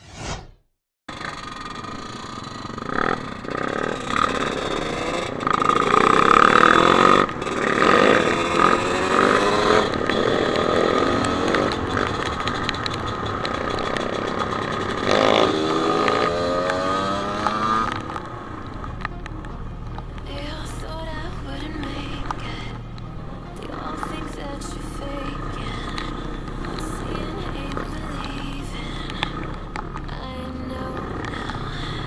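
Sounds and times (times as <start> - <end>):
dirt bike engine revving: 1.1 - 32.0.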